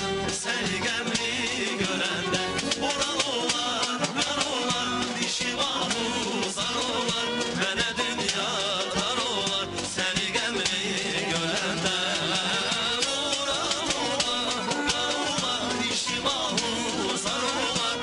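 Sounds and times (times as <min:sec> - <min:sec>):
men singing into microphones: 0:00.0 - 0:18.0
tar violin and percussion playing: 0:00.0 - 0:18.0.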